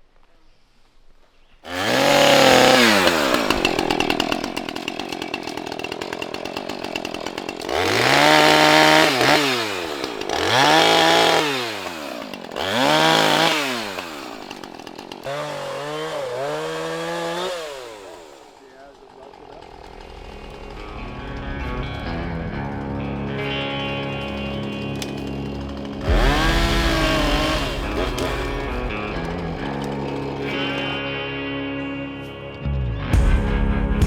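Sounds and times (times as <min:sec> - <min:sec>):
chainsaw revving and idling: 0:01.6 - 0:31.4.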